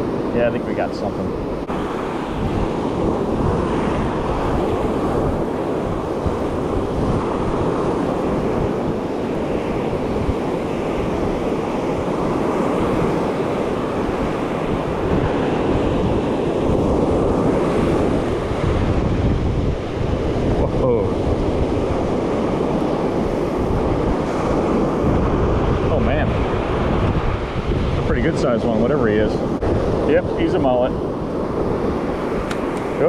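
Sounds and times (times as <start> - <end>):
ocean surf washing on beach: 0.0 - 33.0
wind buffeting microphone: 0.0 - 33.0.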